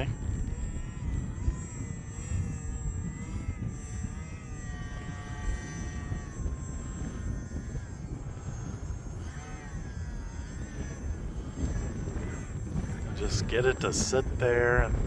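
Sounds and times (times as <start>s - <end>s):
model plane motor whining: 0.0s - 15.0s
wind buffeting microphone: 0.0s - 15.0s.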